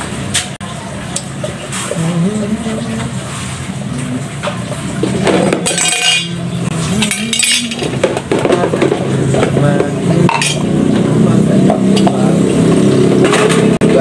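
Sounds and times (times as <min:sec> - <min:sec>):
dishes clinking while hand washed: 0:00.3 - 0:12.5.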